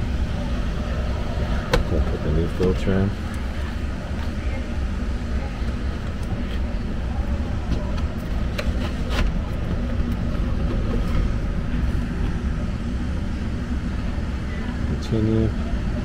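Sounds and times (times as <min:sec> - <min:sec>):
blower rumbling: 0:00.0 - 0:16.0.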